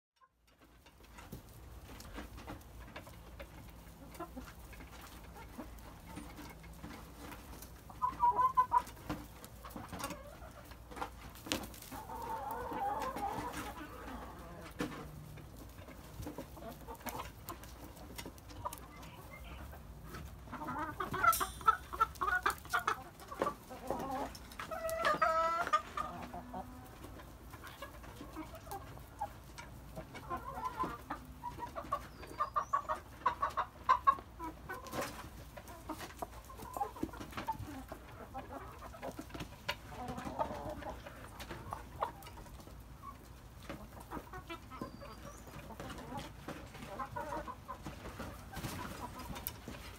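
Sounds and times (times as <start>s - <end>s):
chickens clucking: 0.2s - 49.9s.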